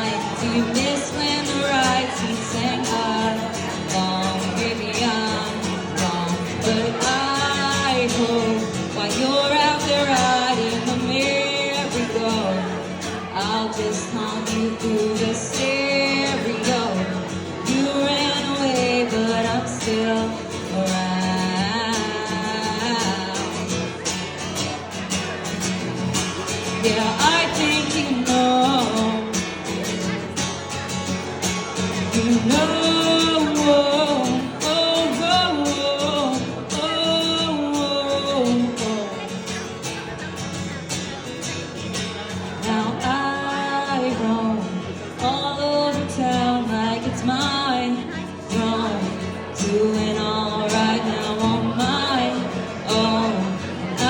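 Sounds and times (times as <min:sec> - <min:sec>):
person singing: 0:00.0 - 0:24.3, 0:26.2 - 0:30.6, 0:31.6 - 0:40.0, 0:42.4 - 0:54.0
guitar accompaniment: 0:00.0 - 0:54.0.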